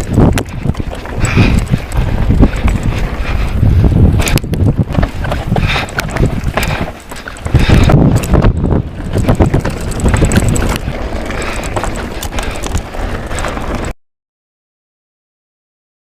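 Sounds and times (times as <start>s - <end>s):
bike chain and frame rattling: 0.0s - 13.9s
tyres rumbling: 0.0s - 13.9s
wind buffeting microphone: 0.0s - 13.9s.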